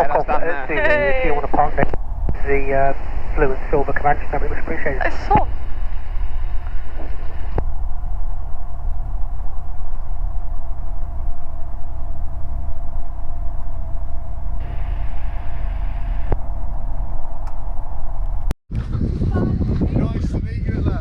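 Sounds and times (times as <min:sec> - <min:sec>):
aircraft engine drone with whine: 0:00.0 - 0:18.6.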